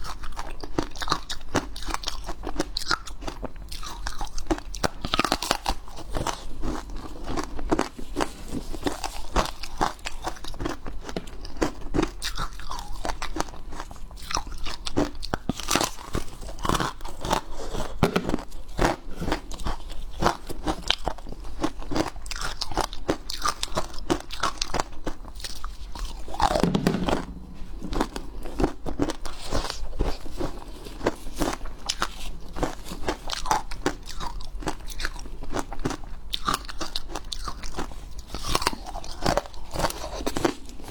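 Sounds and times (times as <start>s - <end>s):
ice being chewed: 0.0s - 26.6s, 27.9s - 40.9s.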